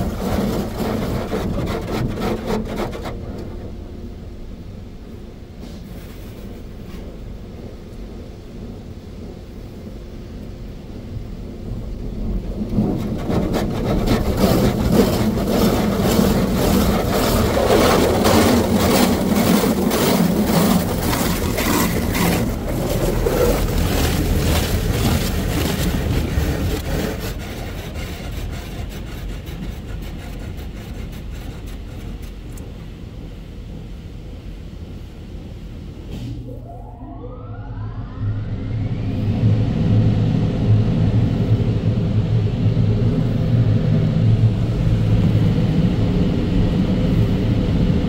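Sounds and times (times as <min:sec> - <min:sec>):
car wash rushing noise: 0:00.0 - 0:03.8, 0:05.9 - 0:36.6, 0:38.5 - 0:48.0.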